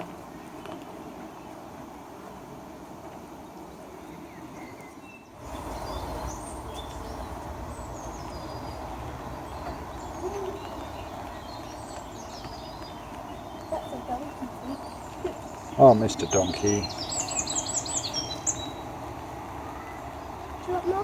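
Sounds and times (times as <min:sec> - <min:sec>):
steady background noise: 0:00.0 - 0:21.0
small birds chirping: 0:03.1 - 0:21.0.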